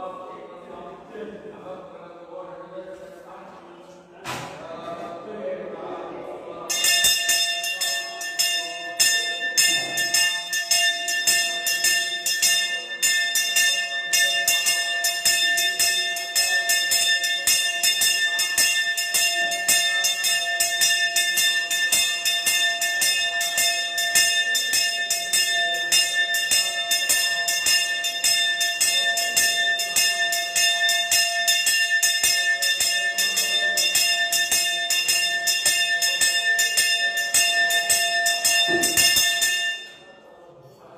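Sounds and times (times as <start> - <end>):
brass hand bell ringing: 6.7 - 40.0.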